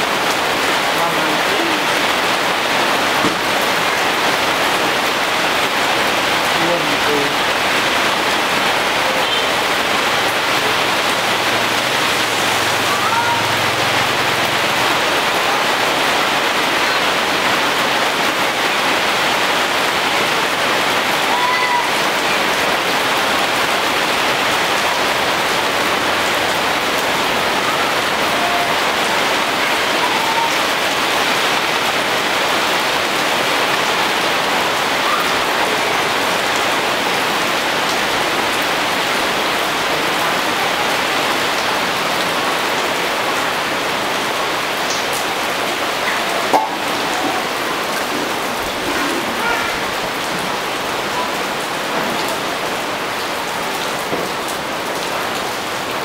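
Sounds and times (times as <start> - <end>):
rain falling on trees and roofs: 0.0 - 56.0.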